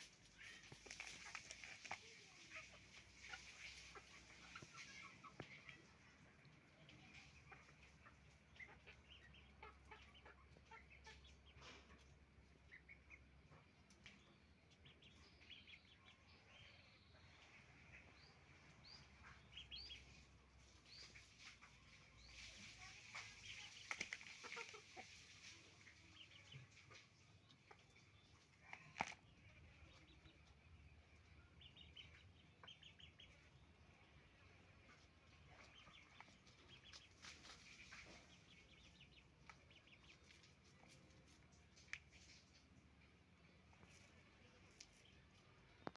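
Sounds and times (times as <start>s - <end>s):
chickens calling: 0.0s - 45.9s.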